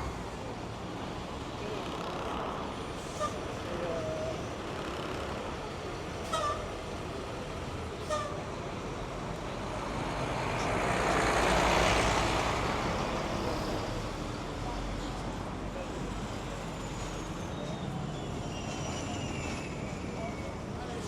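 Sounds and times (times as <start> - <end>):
hum of traffic: 0.0 - 21.0.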